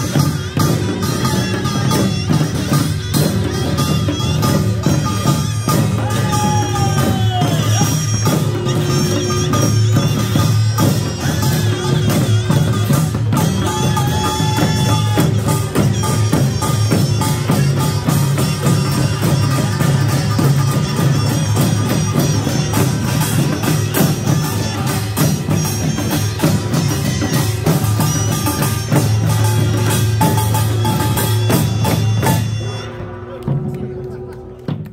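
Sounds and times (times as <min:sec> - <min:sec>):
barrel drums beating fast: 0:00.0 - 0:32.6.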